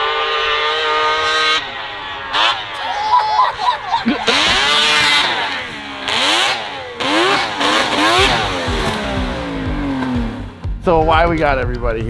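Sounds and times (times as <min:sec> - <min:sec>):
snowmobile engine revving: 0:00.0 - 0:10.7.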